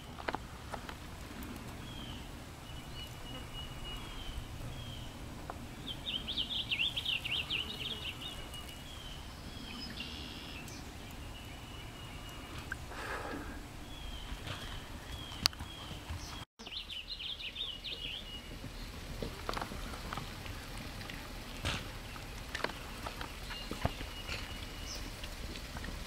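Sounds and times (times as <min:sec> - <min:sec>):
low rumble of wind: 0:00.0 - 0:26.0.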